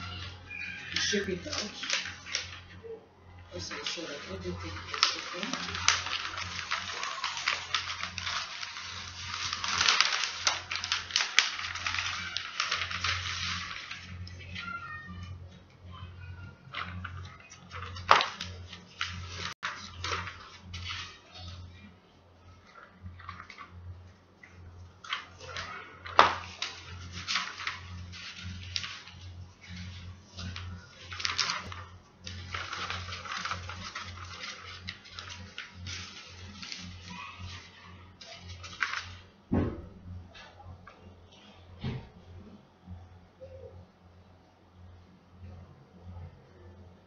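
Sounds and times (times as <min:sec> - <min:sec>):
paper crinkling and rustling: 0:00.0 - 0:42.0
faint low hum: 0:00.0 - 0:47.0.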